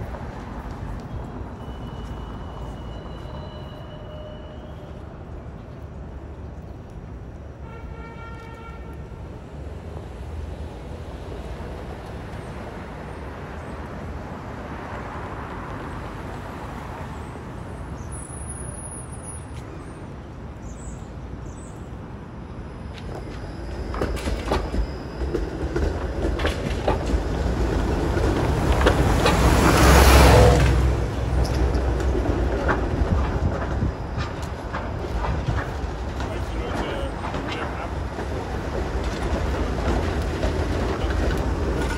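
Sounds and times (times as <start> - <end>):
light street traffic: 0.0 - 41.9
streetcar wheels rumbling on tracks: 0.0 - 41.9.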